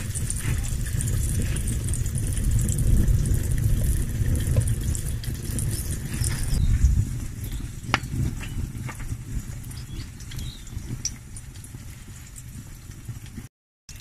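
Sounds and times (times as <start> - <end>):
low rumble: 0.0 - 12.6
egg sizzling in oil: 0.0 - 14.0
fire crackling: 0.0 - 14.0.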